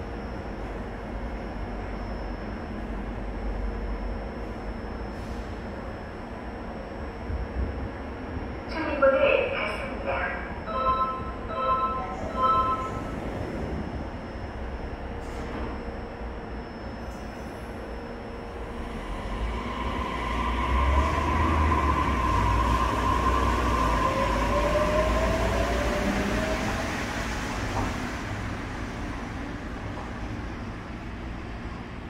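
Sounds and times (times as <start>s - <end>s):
monorail train running noise: 0.0s - 32.0s.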